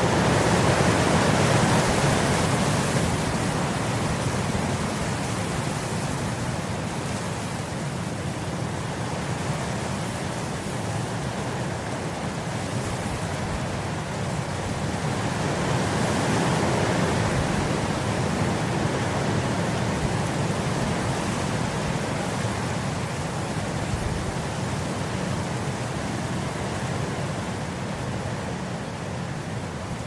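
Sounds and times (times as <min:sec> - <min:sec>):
wind blowing across grass: 0:00.0 - 0:30.0.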